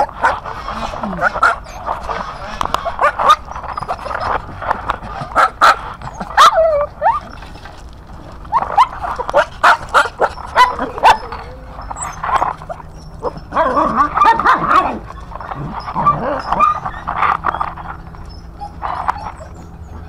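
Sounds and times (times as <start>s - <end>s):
dogs whining: 0.0s - 20.0s
small dogs yapping: 0.0s - 20.0s.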